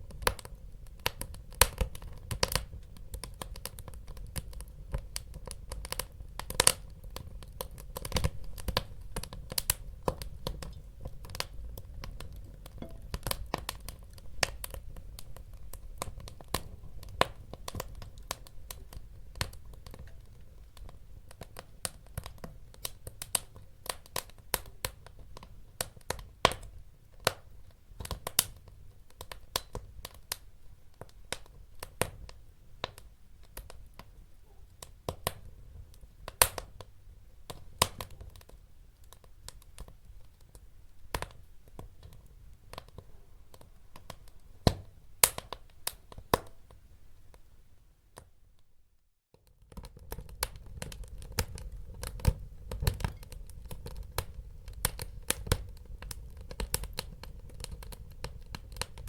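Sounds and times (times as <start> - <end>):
low rumble of burning logs: 0.0 - 48.2, 49.3 - 59.0
wood fire crackling: 0.0 - 48.3, 49.3 - 59.0.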